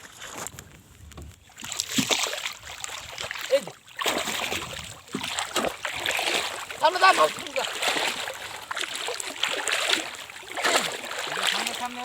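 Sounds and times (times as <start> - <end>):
water splashing around boat: 0.0 - 12.0.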